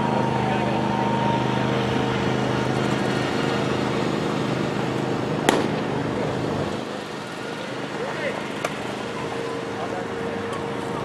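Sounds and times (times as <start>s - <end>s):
utility vehicle engine humming: 0.0s - 11.0s.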